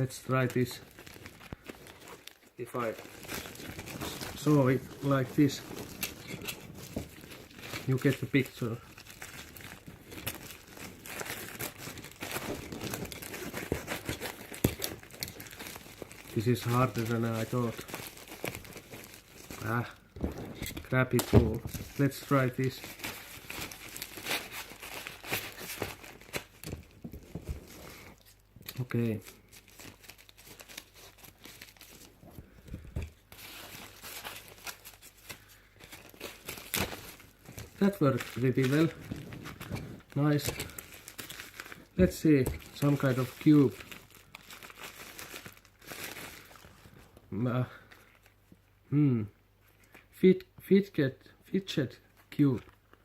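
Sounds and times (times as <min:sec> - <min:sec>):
package wrapping crinkling: 0:00.0 - 0:48.6.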